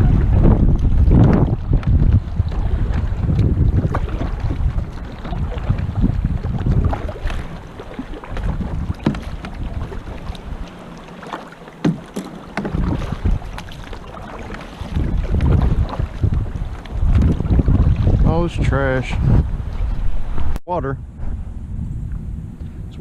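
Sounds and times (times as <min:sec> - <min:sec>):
wind rumbling on microphone: 0:00.0 - 0:10.9, 0:11.8 - 0:23.0
water splashing against hull: 0:00.0 - 0:20.6.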